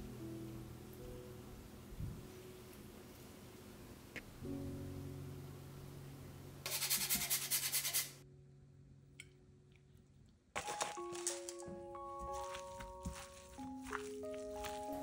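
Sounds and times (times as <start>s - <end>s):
soft instrumental music: 0.0s - 6.7s, 8.2s - 15.0s.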